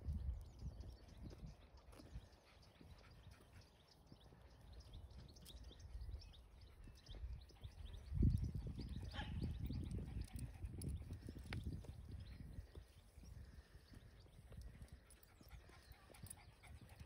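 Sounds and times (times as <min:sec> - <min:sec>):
footsteps on a path: 0:00.0 - 0:09.0, 0:10.6 - 0:17.0
small birds chirping: 0:00.0 - 0:17.0.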